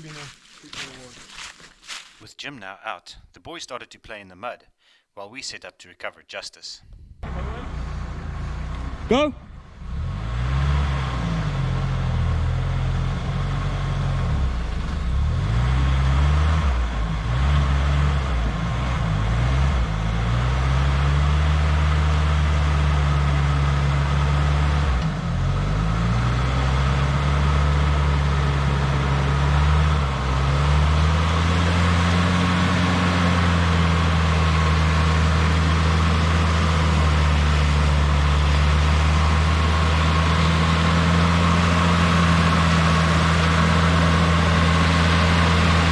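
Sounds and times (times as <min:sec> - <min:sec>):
engine revving under load: 0:07.2 - 0:45.9.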